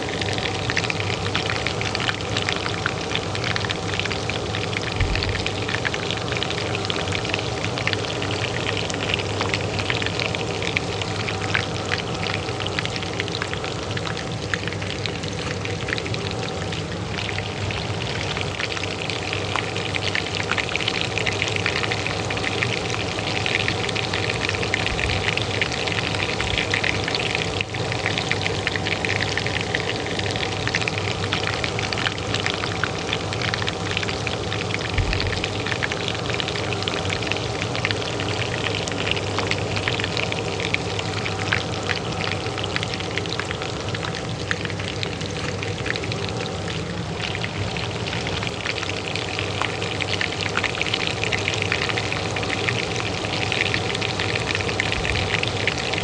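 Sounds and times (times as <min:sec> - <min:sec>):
oil crackling in a pan: 0:00.0 - 0:56.0
range hood fan hum: 0:00.0 - 0:56.0.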